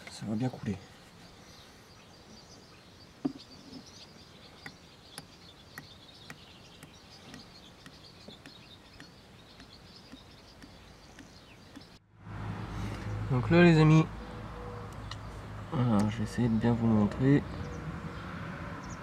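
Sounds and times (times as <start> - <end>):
birds chirping: 0.0 - 12.1, 12.7 - 19.0.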